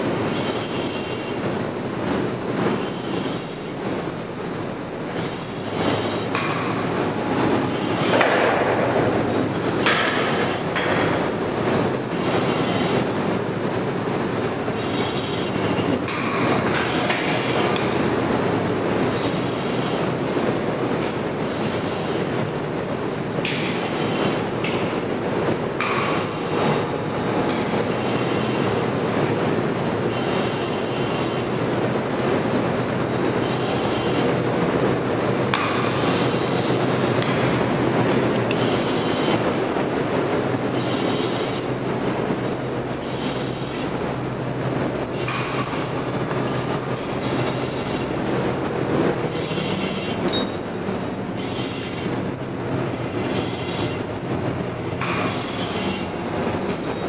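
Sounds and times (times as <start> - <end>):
plant machinery running: 0.0 - 57.0.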